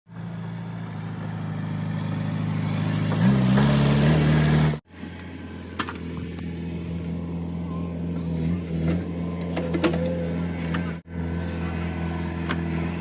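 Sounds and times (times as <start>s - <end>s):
quieter engine running: 0.1s - 13.0s.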